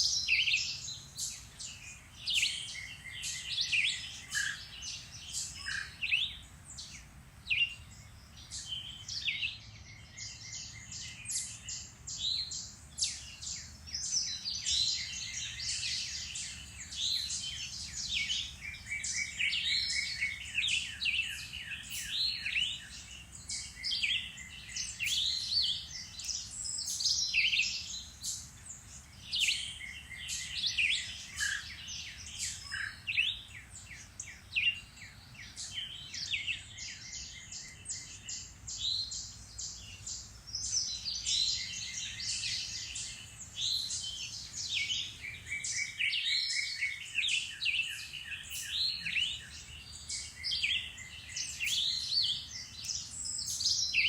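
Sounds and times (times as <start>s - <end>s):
songbirds chorus: 0.0s - 54.0s.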